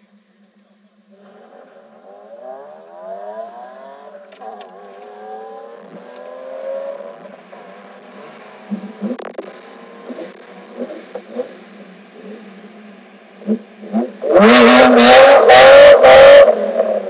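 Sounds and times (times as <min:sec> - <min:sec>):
race cars accelerating: 0:01.1 - 0:17.0.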